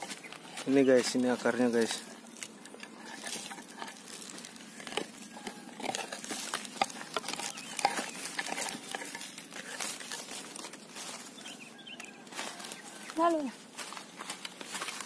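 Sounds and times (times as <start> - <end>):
loose earth pattering: 0.0 - 15.0.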